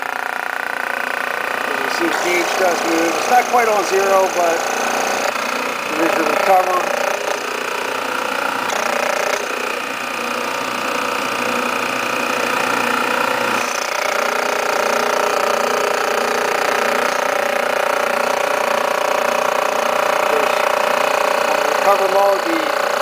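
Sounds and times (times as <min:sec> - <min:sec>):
compressor and fan humming: 0:00.0 - 0:23.0.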